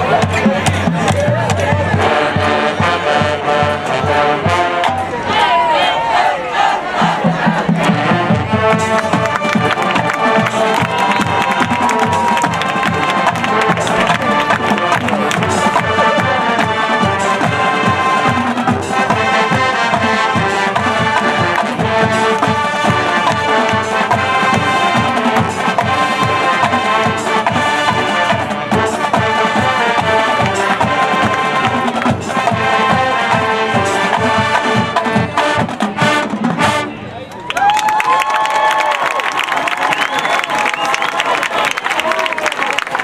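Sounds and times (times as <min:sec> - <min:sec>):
steady drum beat: 0:00.0 - 0:05.0, 0:07.0 - 0:36.8
brass section playing: 0:00.0 - 0:37.2.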